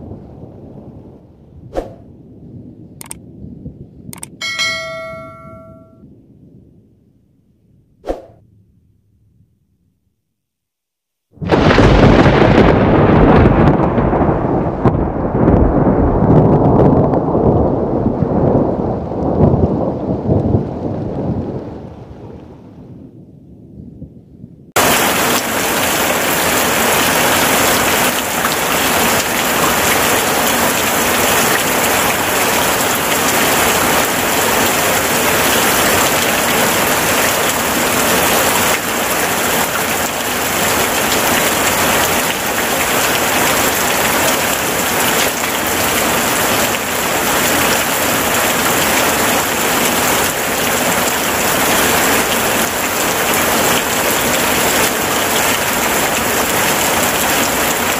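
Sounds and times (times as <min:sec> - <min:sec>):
heavy rain: 0:00.0 - 0:05.9, 0:11.4 - 0:23.0, 0:24.7 - 0:57.9.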